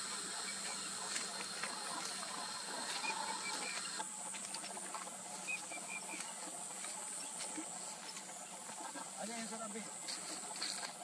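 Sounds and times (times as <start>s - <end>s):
distant bird calling: 0.0s - 11.0s
steady high hiss: 0.0s - 11.0s.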